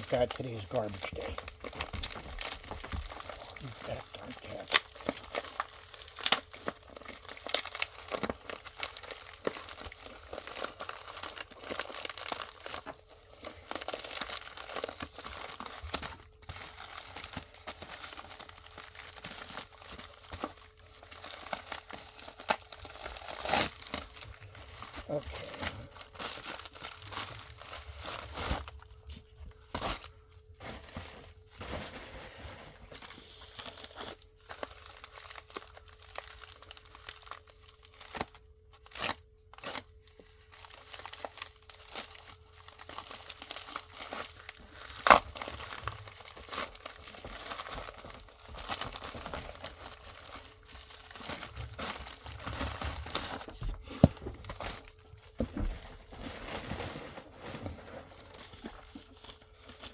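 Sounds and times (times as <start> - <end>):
packaging rustling and tearing: 0.0 - 59.9.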